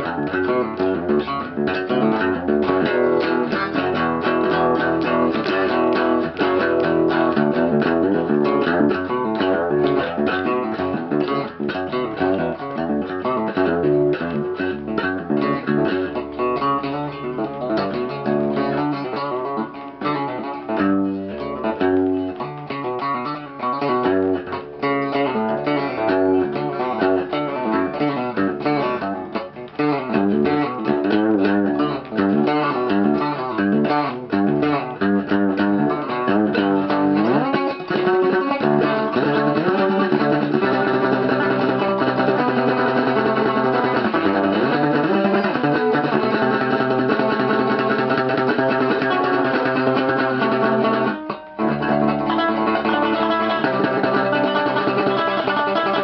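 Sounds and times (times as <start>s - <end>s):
plucked guitar music: 0.0s - 56.0s.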